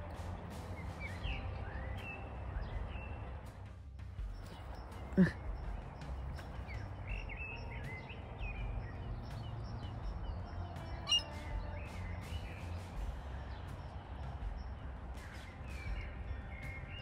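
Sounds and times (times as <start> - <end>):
wild birds chirping and calling: 0.0 - 3.4, 4.3 - 17.0.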